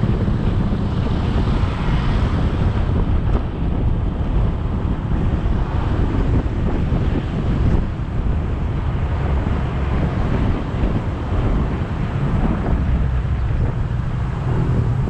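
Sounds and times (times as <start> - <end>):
road noise: 0.0 - 15.0
wind rumbling on microphone: 0.0 - 15.0.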